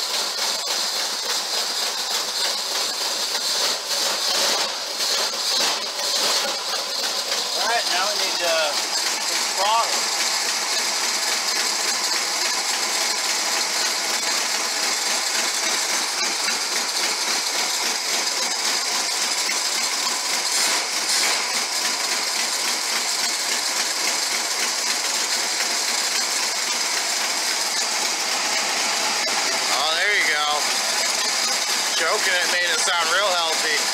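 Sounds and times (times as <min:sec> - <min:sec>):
car engine running steadily: 0:00.0 - 0:33.9.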